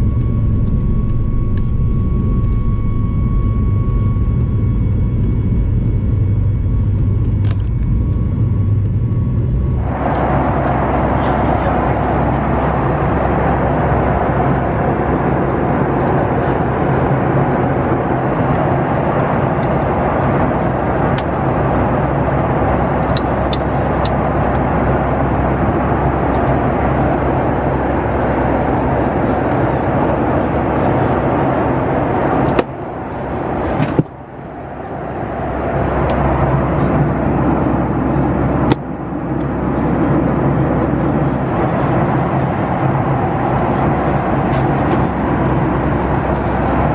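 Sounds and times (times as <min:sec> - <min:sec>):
jet engines and airflow: 0:00.0 - 0:46.9
low hum: 0:00.0 - 0:46.9.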